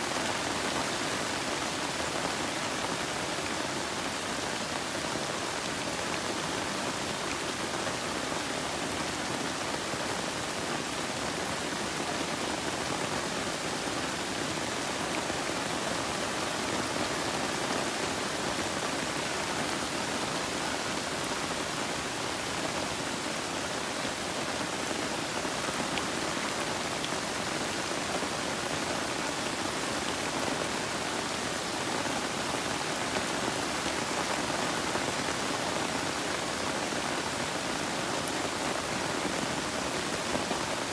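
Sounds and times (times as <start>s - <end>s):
rain falling on foliage: 0.0s - 40.9s.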